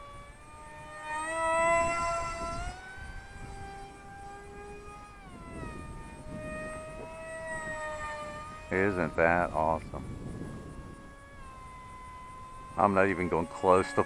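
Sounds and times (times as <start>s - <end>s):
electric model plane whining: 0.0s - 14.0s.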